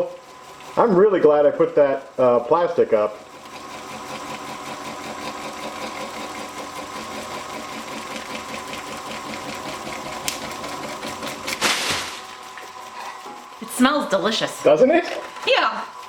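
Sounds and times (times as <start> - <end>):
wood lathe hum with chatter: 0.0 - 16.0.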